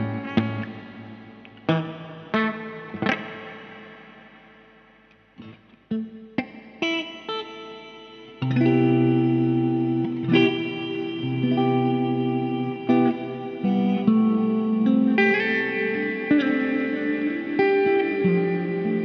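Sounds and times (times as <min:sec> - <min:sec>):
electric guitar notes and chords: 0:00.0 - 0:19.0.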